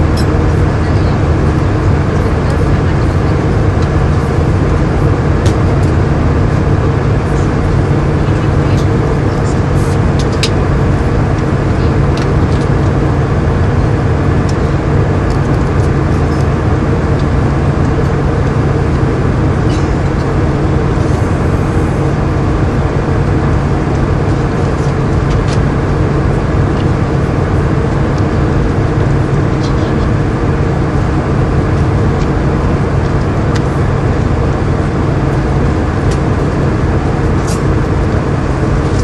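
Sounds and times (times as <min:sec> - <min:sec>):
jet engines roaring: 0:00.0 - 0:39.0
low hum: 0:00.0 - 0:39.0.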